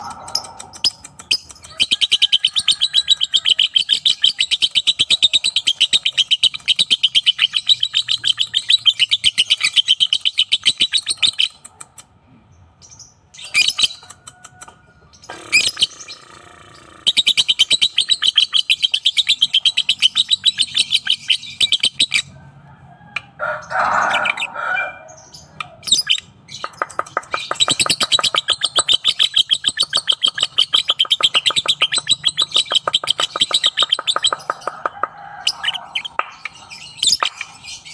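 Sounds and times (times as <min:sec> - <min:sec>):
lovebird chattering song: 0:00.0 - 0:12.0, 0:12.8 - 0:14.3, 0:15.1 - 0:22.3, 0:25.2 - 0:37.9.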